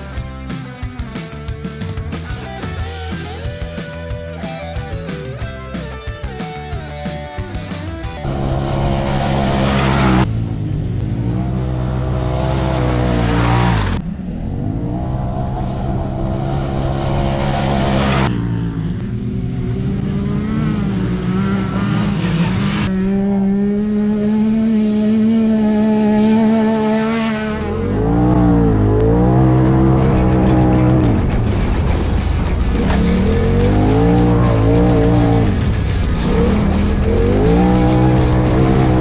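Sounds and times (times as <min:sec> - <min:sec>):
off-road vehicle engine running hard: 0:00.0 - 0:39.0.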